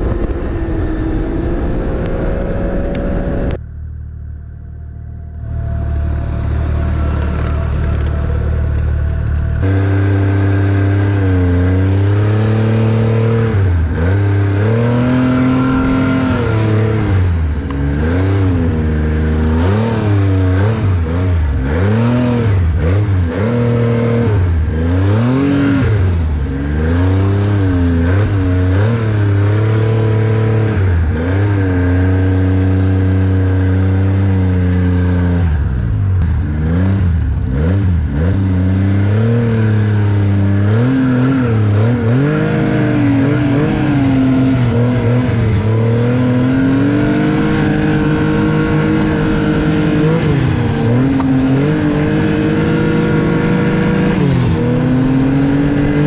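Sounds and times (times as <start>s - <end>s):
snowmobile engine revving: 5.2s - 56.0s.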